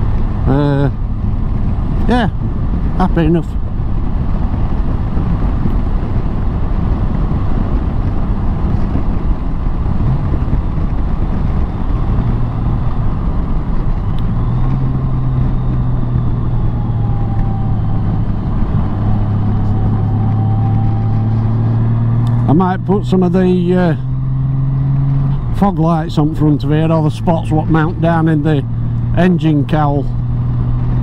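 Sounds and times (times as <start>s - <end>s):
motorcycle engine hum: 0.0s - 31.0s
road noise: 0.0s - 31.0s
wind rush: 0.0s - 31.0s.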